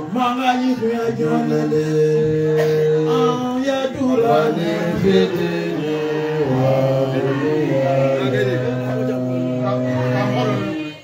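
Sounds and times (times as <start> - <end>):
man chanting into microphone: 0.0 - 11.0.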